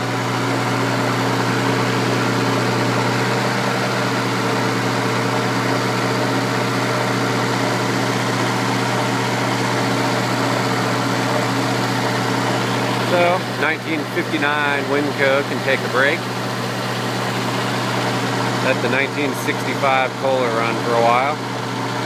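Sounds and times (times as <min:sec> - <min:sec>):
generator engine humming: 0:00.0 - 0:22.0.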